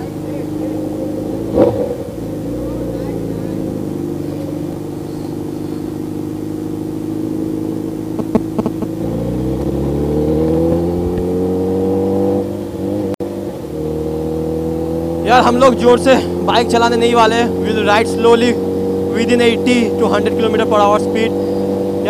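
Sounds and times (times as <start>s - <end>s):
motorbike engine accelerating: 0.0s - 22.0s.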